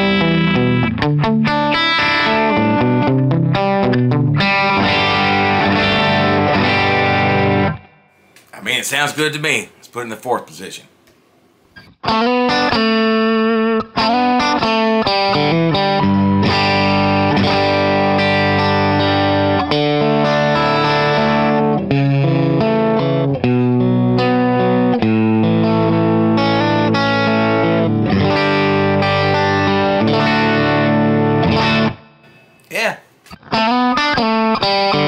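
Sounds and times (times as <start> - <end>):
electric guitar through amplifier: 0.0 - 8.5, 11.8 - 32.6.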